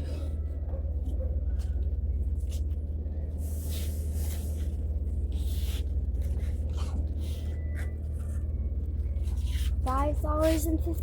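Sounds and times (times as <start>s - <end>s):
steady low hum: 0.0s - 11.0s
rustles and scrapes: 1.0s - 11.0s.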